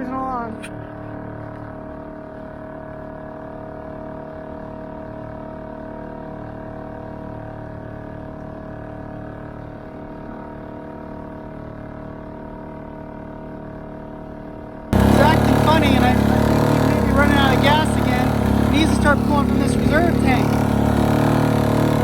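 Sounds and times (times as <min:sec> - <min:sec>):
outboard motor droning: 0:00.0 - 0:22.0.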